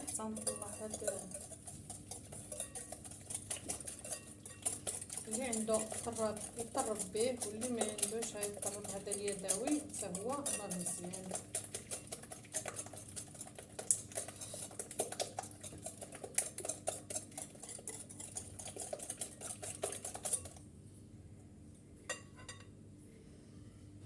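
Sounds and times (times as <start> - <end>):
whisk clicking against bowl: 0.0 - 20.6.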